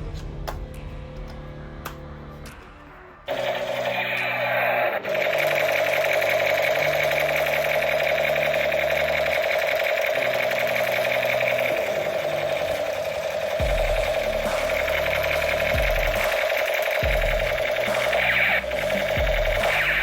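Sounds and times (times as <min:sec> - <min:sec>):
background music: 0:00.0 - 0:20.0
toy gun mechanism buzzing: 0:03.3 - 0:20.0.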